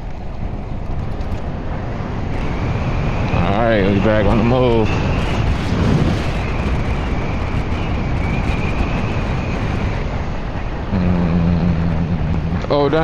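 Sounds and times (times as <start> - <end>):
electric motorcycle road noise: 0.0 - 13.0
low steady hum: 0.0 - 13.0
wind on microphone: 0.0 - 13.0
high-pitched whine: 0.9 - 13.0.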